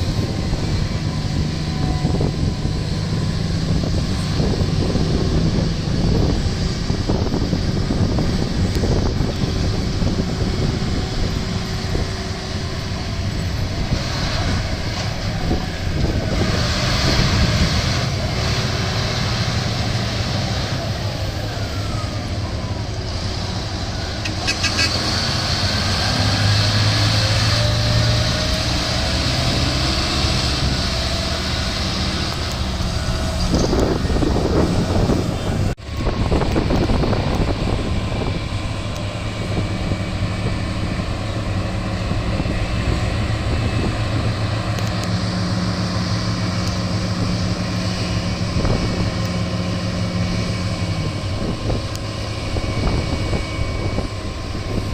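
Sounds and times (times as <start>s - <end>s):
heavy diesel engines droning: 0.0s - 54.9s.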